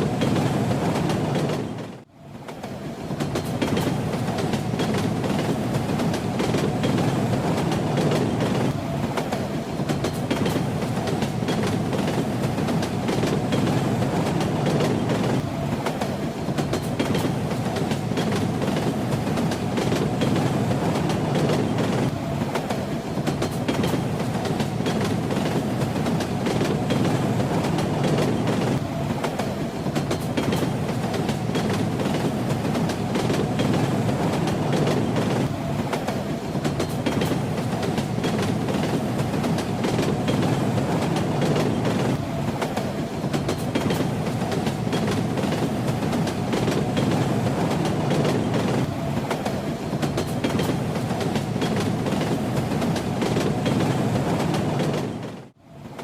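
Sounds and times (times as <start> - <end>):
train rumbling along track: 0.0 - 56.0.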